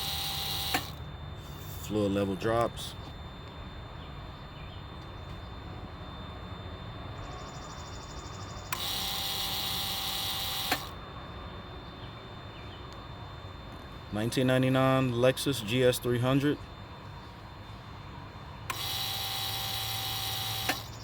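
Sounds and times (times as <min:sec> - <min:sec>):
electric pump humming: 0:00.0 - 0:07.2, 0:08.0 - 0:21.0.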